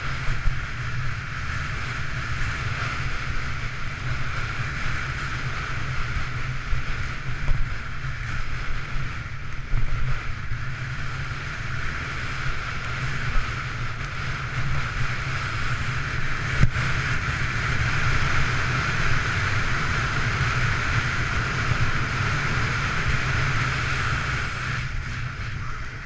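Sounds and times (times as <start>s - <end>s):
skis running over packed snow: 0.0s - 26.0s
wind buffeting microphone: 0.0s - 26.0s.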